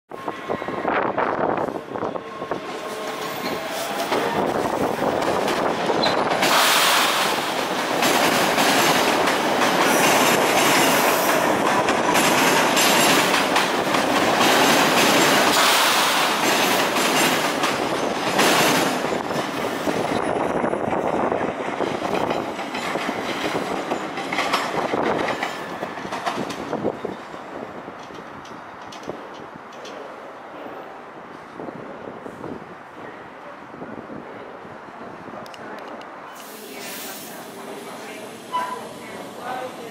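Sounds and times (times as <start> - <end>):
subway train wheels clattering: 0.1 - 39.9.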